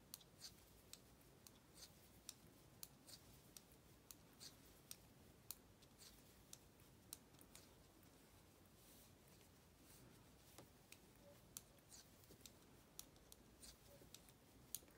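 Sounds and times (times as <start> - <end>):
knitting needles clicking: 0.0 - 8.2, 9.4 - 14.9.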